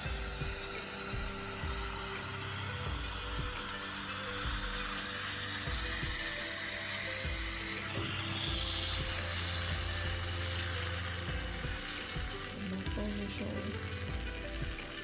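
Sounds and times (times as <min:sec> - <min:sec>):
background music: 0:00.0 - 0:15.0
waffle batter sizzling: 0:00.0 - 0:15.0.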